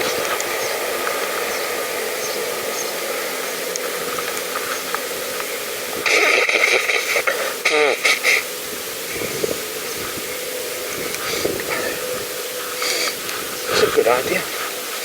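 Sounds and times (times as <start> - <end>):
bursts of rough noise: 0.0 - 15.0
wind hiss on microphone: 0.0 - 15.0.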